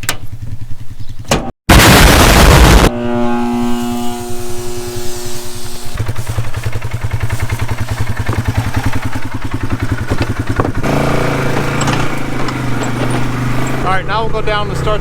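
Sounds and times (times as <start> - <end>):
engine running with rapid pulse: 0.1 - 15.0.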